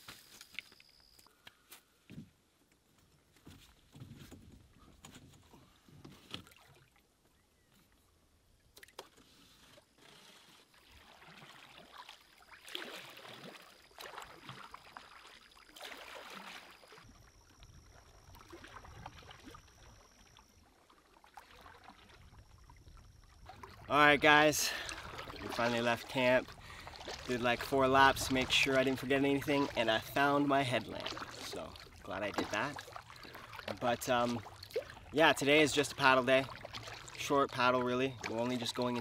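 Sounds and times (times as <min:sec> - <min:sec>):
canoe paddle strokes in water: 0:03.2 - 0:08.1, 0:08.8 - 0:39.0.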